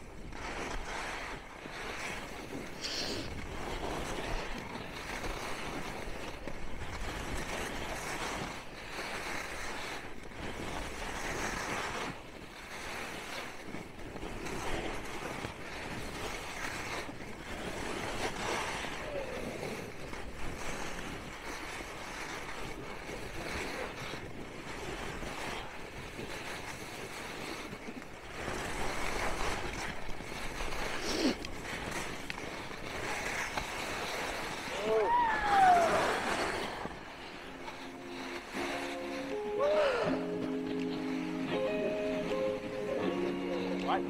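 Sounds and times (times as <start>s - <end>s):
wind noise on microphone: 0.0s - 43.6s
skis scraping on snow: 0.0s - 44.0s.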